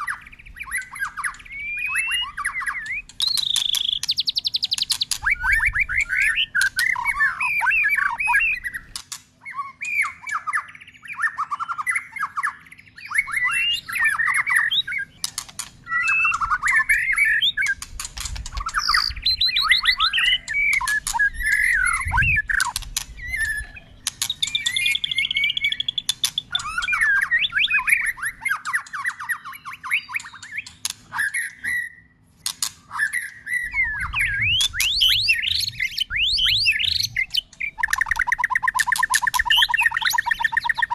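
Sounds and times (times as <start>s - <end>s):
sharp bird clicks: 0.0s - 10.7s, 13.0s - 40.9s
bird singing: 0.0s - 40.9s.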